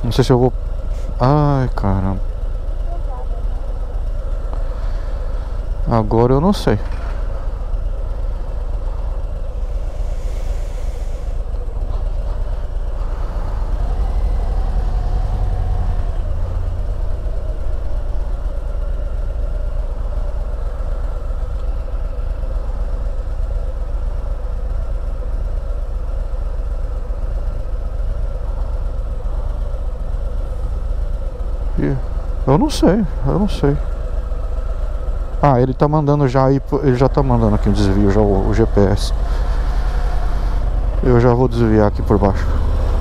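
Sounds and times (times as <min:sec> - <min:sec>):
motorcycle engine rumbling: 0:00.0 - 0:43.0.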